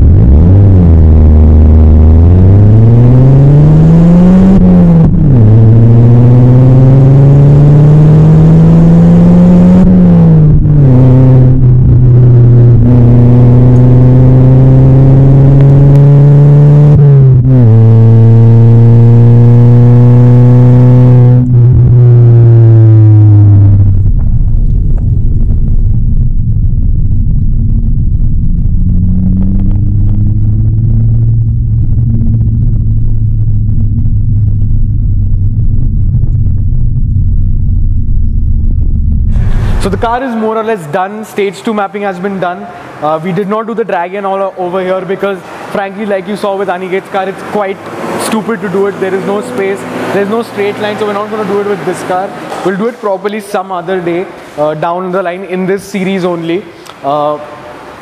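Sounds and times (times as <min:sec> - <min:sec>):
car engine accelerating hard: 0:00.0 - 0:54.6
road and wind rumble: 0:00.0 - 0:58.0.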